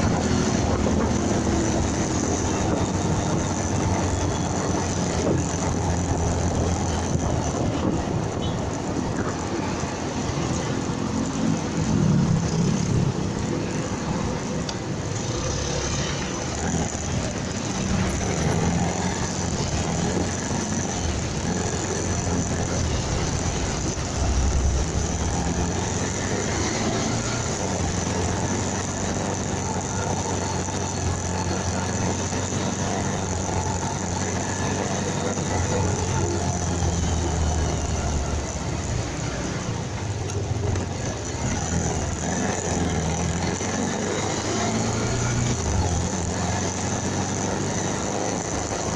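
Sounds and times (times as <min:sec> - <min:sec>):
motorcycle engine drone: 0:00.0 - 0:48.9
wind and road noise: 0:00.0 - 0:48.9.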